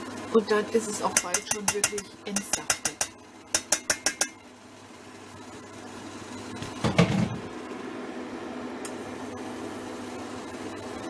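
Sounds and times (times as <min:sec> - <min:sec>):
steam juicer humming and hissing: 0:00.0 - 0:11.0.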